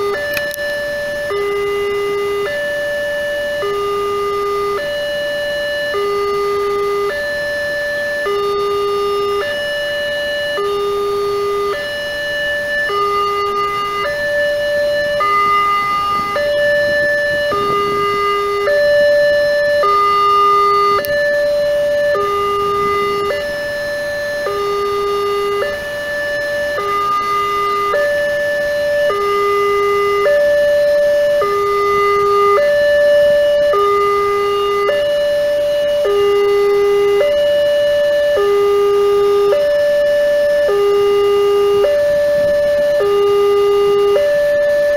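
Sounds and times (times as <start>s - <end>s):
level-crossing two-tone alarm: 0.0s - 44.9s.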